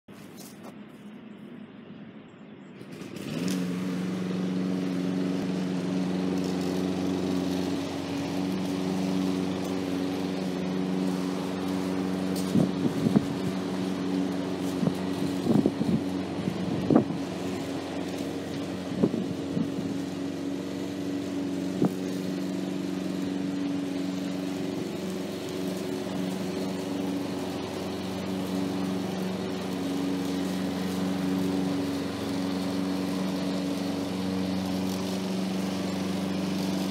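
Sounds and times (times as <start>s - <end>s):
lawn mower engine running: 0.1s - 36.9s.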